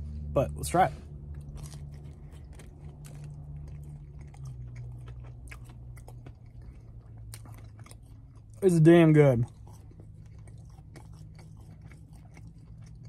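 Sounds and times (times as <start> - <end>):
man chewing with wet smacks: 1.1 - 13.0.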